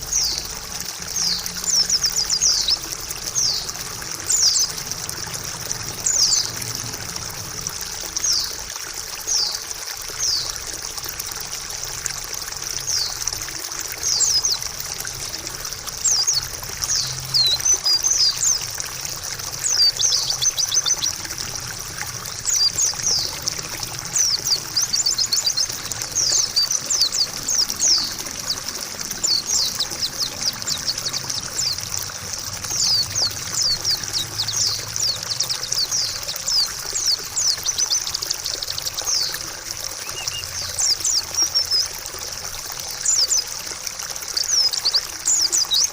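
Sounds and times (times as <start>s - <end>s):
bird chirps and trills: 0.0s - 8.6s, 9.2s - 9.6s, 10.2s - 10.5s, 12.8s - 42.0s, 42.9s - 43.7s, 44.3s - 45.9s
trickling water: 0.0s - 45.9s.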